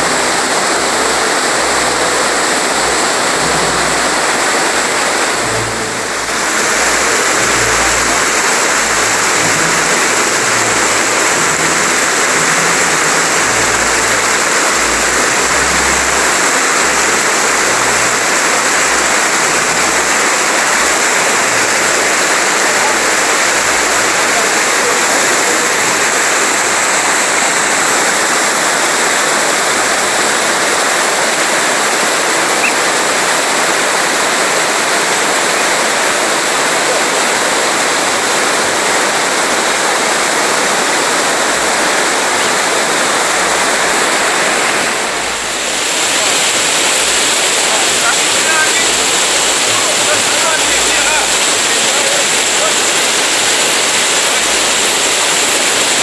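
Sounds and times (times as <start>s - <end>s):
white water rushing: 0.0s - 56.0s.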